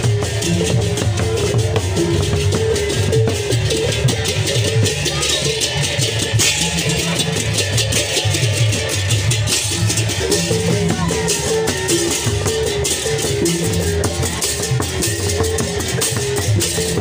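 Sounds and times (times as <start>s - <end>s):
drums: 0.0s - 17.0s
hand cymbals clashing: 0.0s - 17.0s.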